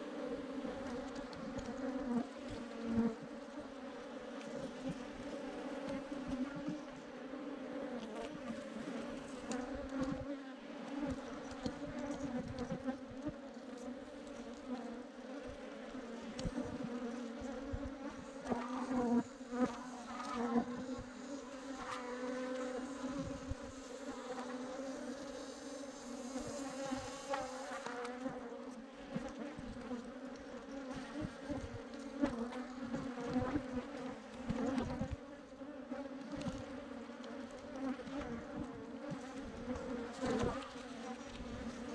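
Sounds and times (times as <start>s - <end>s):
bee swarm humming: 0.0s - 41.9s.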